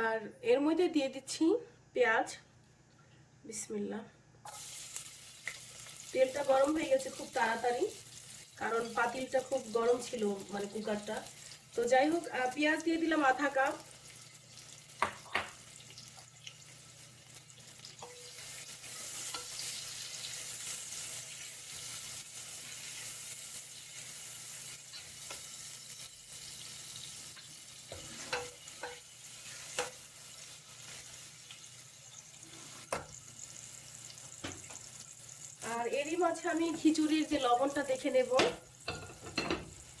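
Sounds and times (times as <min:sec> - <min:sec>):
onions sizzling in oil: 0:04.4 - 0:40.0.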